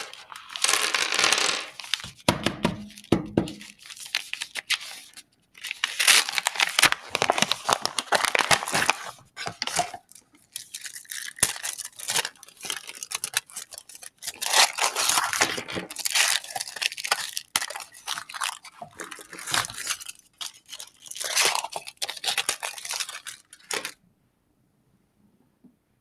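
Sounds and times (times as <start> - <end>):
candy wrappers crinkling: 0.0 - 24.0.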